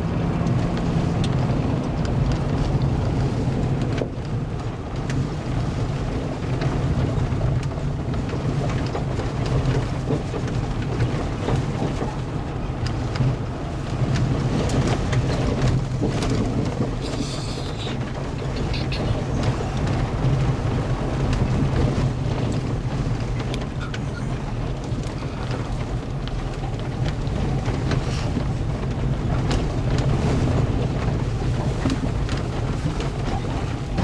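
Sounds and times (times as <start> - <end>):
tyres and engine rumble: 0.0 - 34.0
gravel ticking: 0.3 - 34.0.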